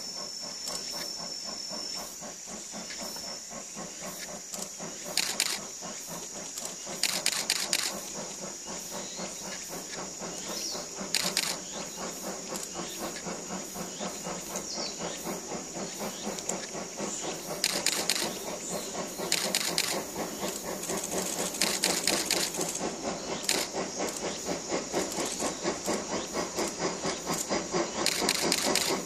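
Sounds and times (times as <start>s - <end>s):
faint steam locomotive exhaust beat: 0.0s - 29.0s
high insect drone: 0.0s - 29.0s.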